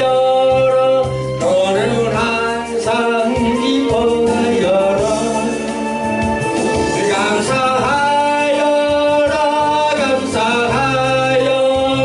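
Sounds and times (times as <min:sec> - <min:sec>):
man singing long held notes: 0:00.0 - 0:06.1, 0:06.7 - 0:12.0
instrumental backing: 0:00.0 - 0:12.0.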